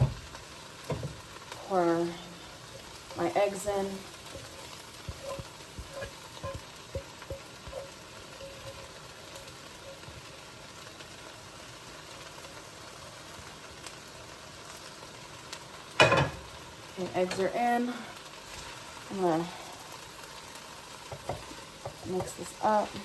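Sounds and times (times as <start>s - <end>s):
eggs sizzling in a pan: 0.0s - 23.0s.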